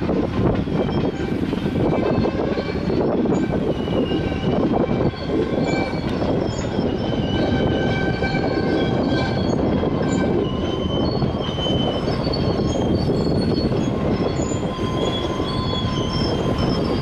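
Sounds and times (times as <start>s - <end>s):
train wheels rumbling on rail: 0.0s - 17.0s
high wheel squeals: 0.5s - 17.0s.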